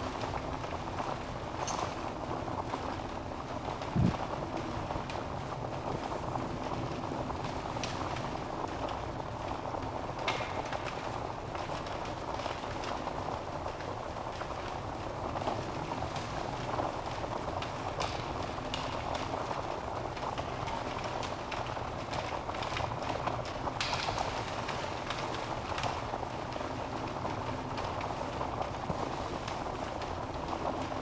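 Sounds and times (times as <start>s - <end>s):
log fire crackling: 0.0s - 31.0s.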